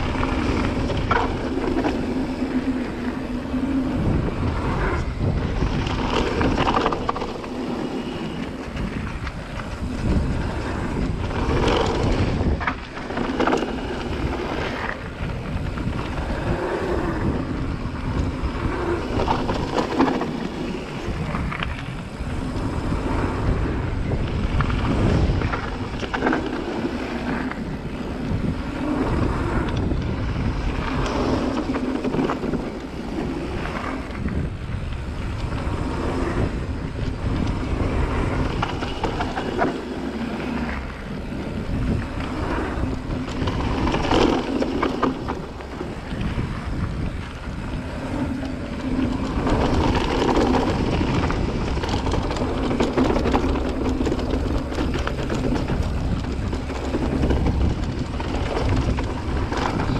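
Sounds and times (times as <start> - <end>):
bike rattling over bumps: 0.0 - 59.9
tyres rolling on dirt: 0.0 - 59.9
wind on microphone: 0.0 - 59.9.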